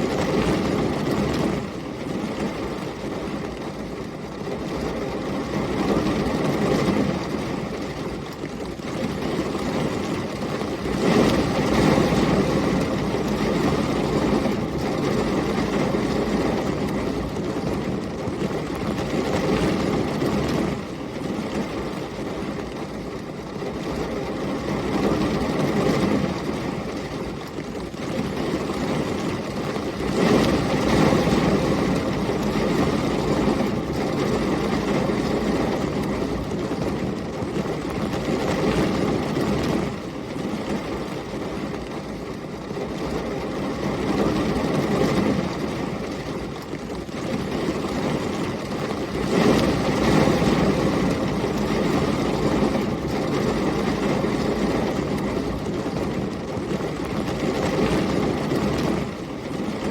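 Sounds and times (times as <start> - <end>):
heavy rain: 0.0 - 59.9
storm wind: 0.0 - 59.9.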